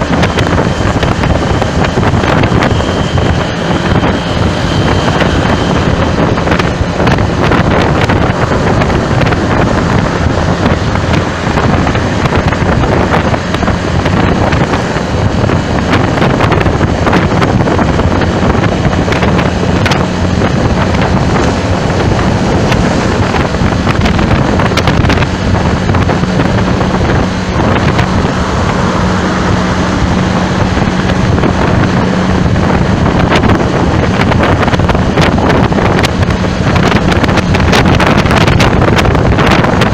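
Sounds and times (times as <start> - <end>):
low engine drone: 0.0 - 39.9
traffic noise: 0.0 - 39.9
wind buffeting microphone: 0.0 - 39.9.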